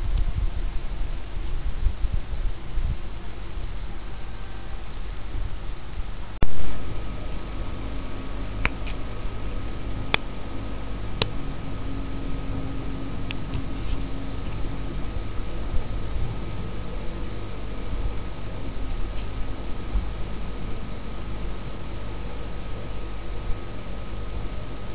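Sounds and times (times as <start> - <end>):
cicadas buzzing: 0.0 - 24.9.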